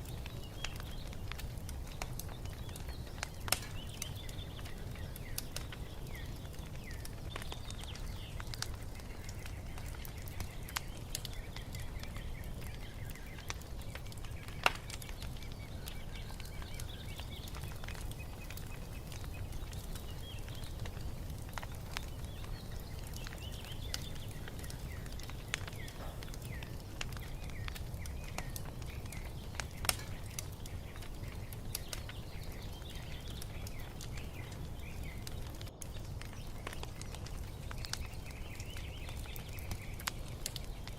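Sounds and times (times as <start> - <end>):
sharp pops from fire: 0.0 - 40.9
small birds chirping: 0.0 - 40.9
wood fire crackling: 0.0 - 40.9.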